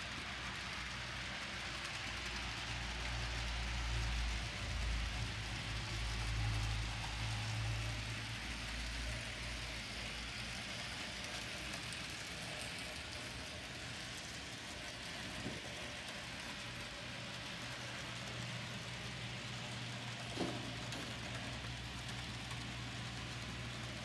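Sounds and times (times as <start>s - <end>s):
model steam train humming: 0.0s - 24.0s.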